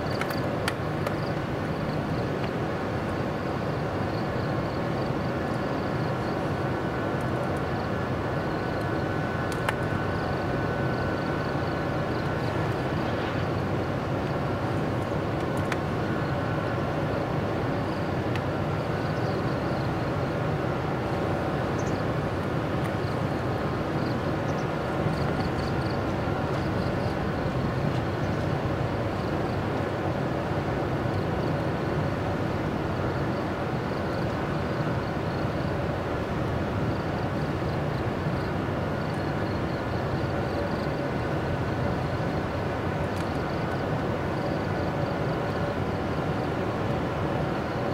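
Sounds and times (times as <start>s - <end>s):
electric locomotive humming: 0.0s - 47.9s
insects chirping: 0.0s - 47.9s.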